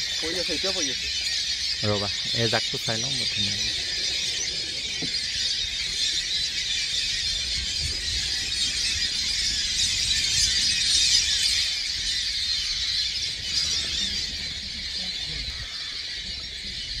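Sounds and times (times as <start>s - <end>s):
flock of birds calling: 0.0s - 17.0s.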